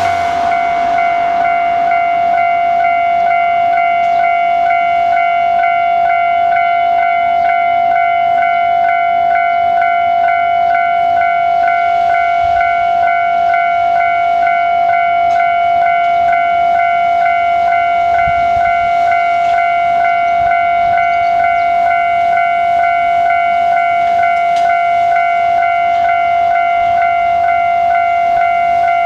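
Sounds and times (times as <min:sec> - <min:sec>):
level-crossing warning bell: 0:00.0 - 0:29.0.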